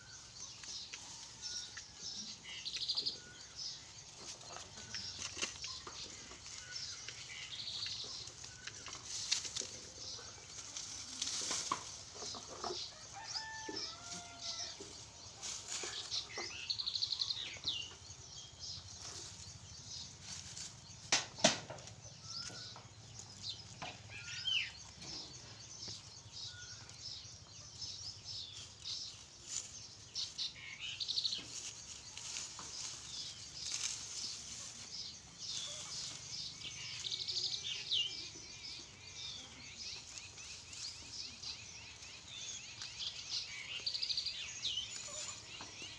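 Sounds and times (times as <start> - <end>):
small birds chirping: 0.0 - 45.9
dry stalks rustling and crackling: 0.1 - 45.9.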